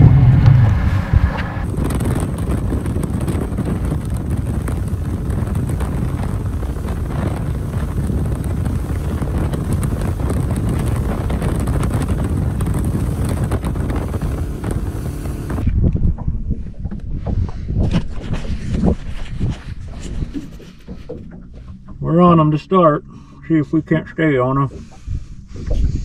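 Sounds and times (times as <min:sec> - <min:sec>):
wind buffeting microphone: 0:00.0 - 0:23.1, 0:24.6 - 0:26.0
boat running noise: 0:00.0 - 0:26.0.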